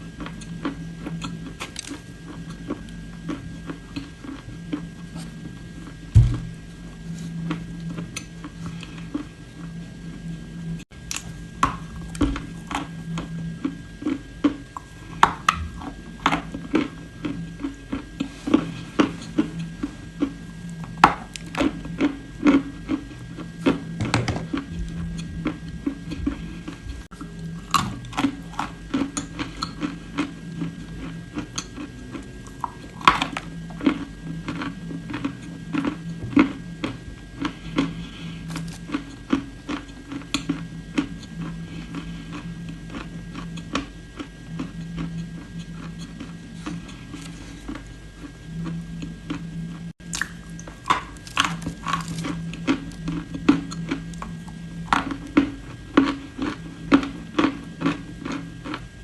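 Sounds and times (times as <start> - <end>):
steady low hum: 0.0 - 59.0
clay being chewed: 0.2 - 9.7, 12.0 - 58.9.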